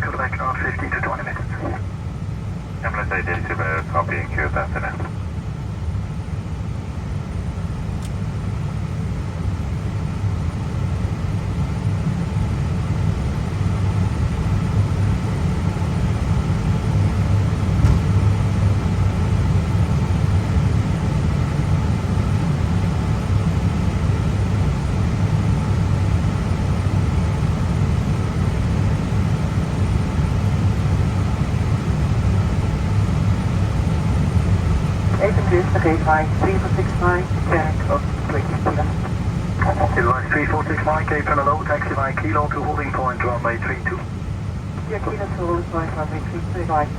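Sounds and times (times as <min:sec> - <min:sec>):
faint steady hum: 0:00.0 - 0:17.7, 0:25.0 - 0:46.9
aircraft engines rumbling: 0:00.0 - 0:46.9.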